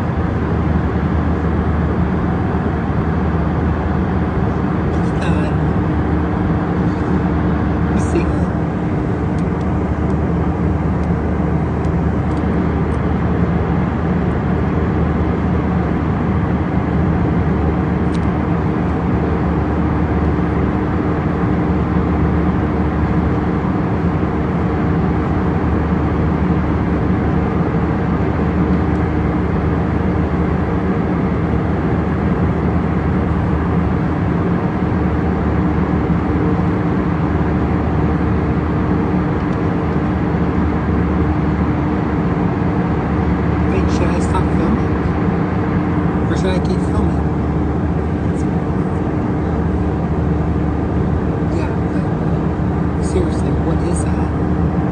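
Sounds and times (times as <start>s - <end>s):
vehicle droning: 0.0s - 25.9s, 26.8s - 54.9s.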